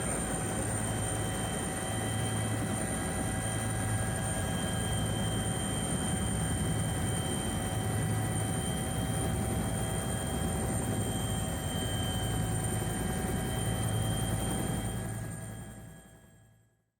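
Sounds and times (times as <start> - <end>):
high turbine whine: 0.0 - 15.9
helicopter rotor rumble: 0.0 - 16.2.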